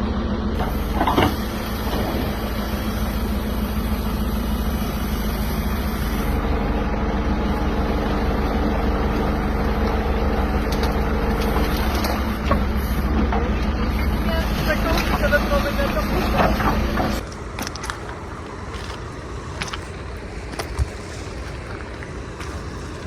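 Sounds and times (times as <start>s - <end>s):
high steady whine: 0.0s - 23.0s
tractor engine running: 0.0s - 23.0s.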